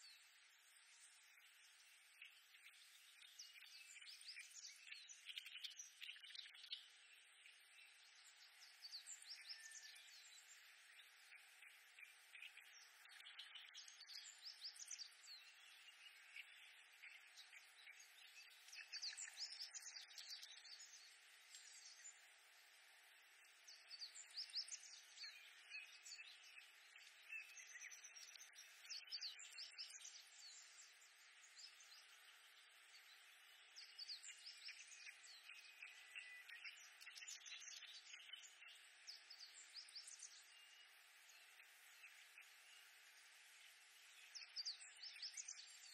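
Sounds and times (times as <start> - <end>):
background hiss: 0.0 - 45.9.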